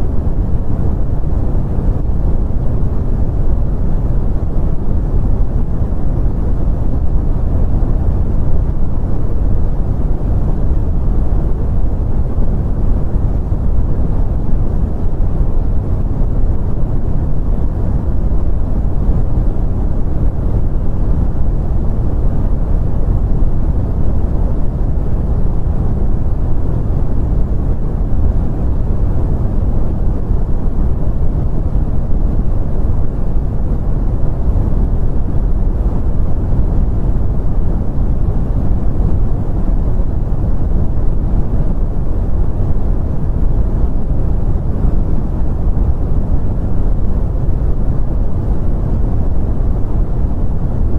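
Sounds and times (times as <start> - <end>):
brown noise: 0.0 - 50.9.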